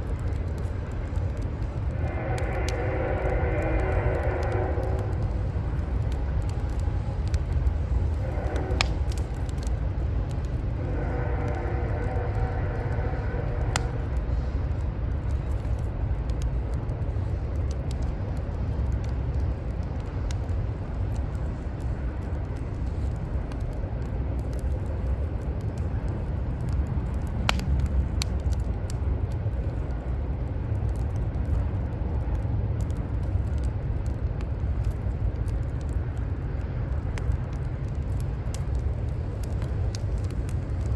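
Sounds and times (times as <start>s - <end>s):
low rumble of city traffic: 0.0s - 40.9s
wood fire crackling and popping: 0.0s - 40.9s.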